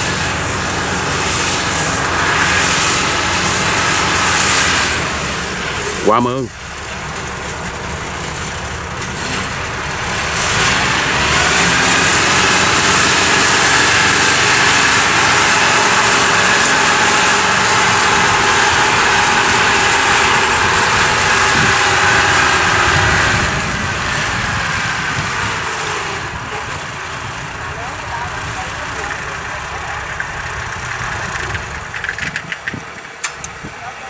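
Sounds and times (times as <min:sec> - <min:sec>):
steady whine: 0:00.0 - 0:34.0
tracked carrier engine running: 0:00.0 - 0:34.0.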